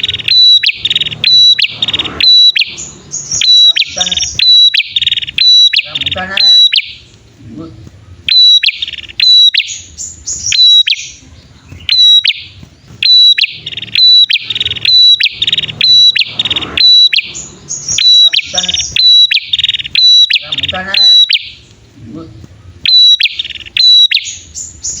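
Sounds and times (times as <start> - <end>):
birds chirping and trilling: 0.0 - 25.0.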